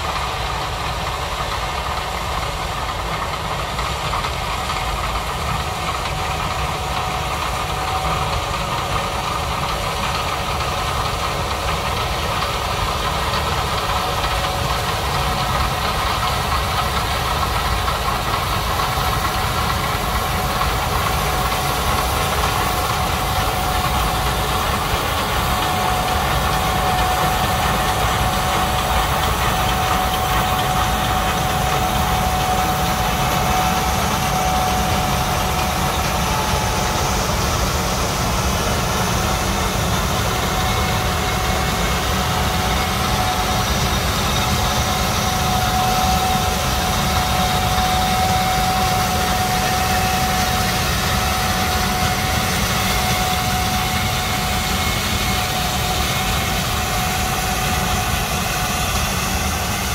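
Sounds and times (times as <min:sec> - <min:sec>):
combine harvester machinery: 0:00.0 - 0:59.9
tractor engine: 0:00.0 - 0:59.9.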